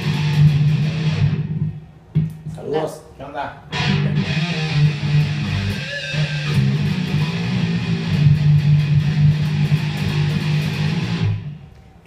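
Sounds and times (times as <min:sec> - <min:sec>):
electric guitar heavy riff: 0:00.0 - 0:01.8, 0:03.7 - 0:11.6.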